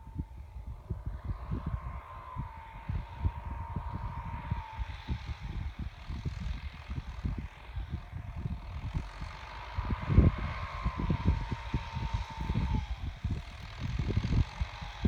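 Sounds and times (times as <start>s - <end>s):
distant tractor drone: 0.0s - 15.0s
wind buffeting microphone: 0.0s - 15.0s.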